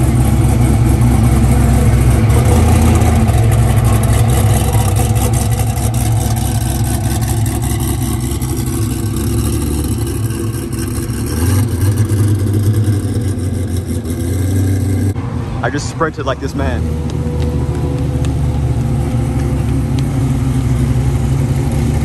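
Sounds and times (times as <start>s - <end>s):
car engine at low revs: 0.0s - 22.0s.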